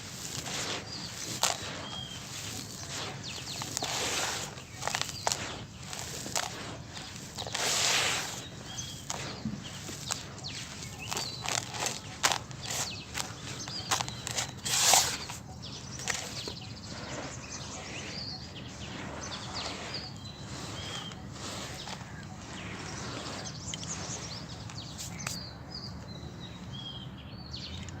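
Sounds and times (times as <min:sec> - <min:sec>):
sand-cement chunks crushing: 0:00.0 - 0:25.3.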